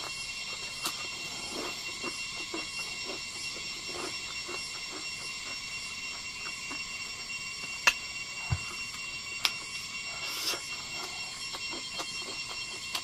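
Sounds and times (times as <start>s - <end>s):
man chewing food: 0.0s - 13.0s.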